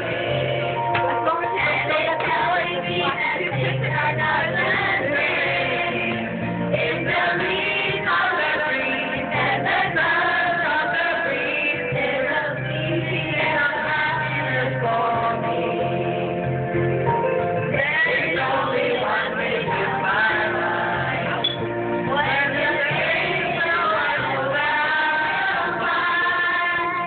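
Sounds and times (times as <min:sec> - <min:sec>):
music backing track with bass: 0:00.0 - 0:27.0.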